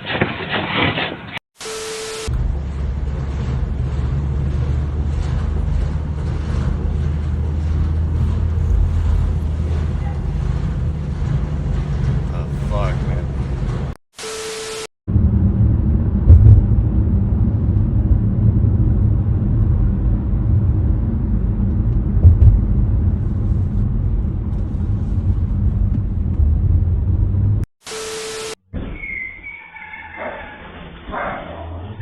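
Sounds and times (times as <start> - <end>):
vehicle road and engine rumble: 0.0 - 14.0, 15.1 - 28.6.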